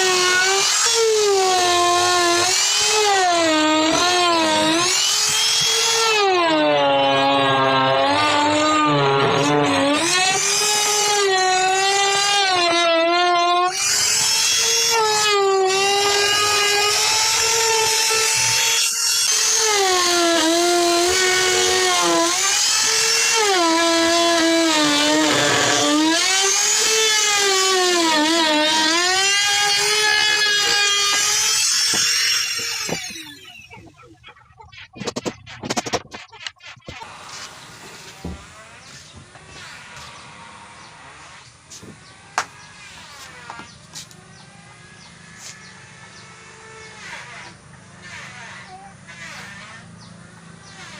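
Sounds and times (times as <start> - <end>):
power tool motor whining: 0.0 - 50.9.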